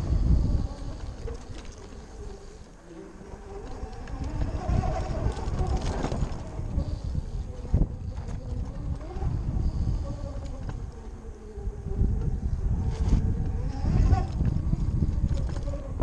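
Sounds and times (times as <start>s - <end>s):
electric motor whine: 0.0s - 16.0s
wind buffeting microphone: 0.0s - 16.0s.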